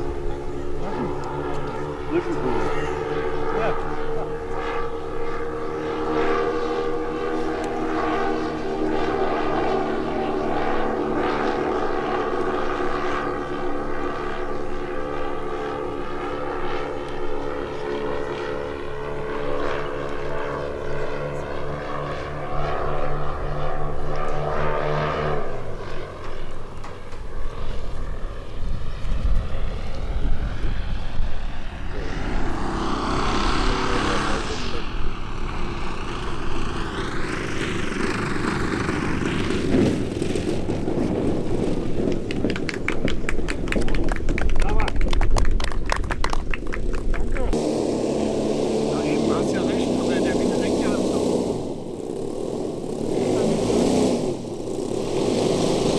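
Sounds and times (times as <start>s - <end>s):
low uneven rumble: 0.0s - 55.9s
model airplane engines droning: 0.0s - 55.9s.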